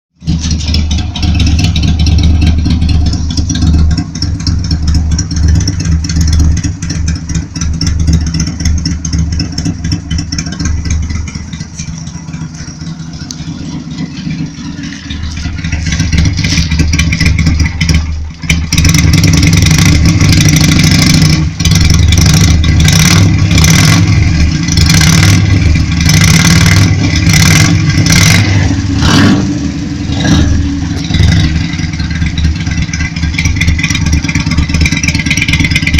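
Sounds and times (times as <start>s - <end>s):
motorcycle engine revving: 0.2s - 35.9s.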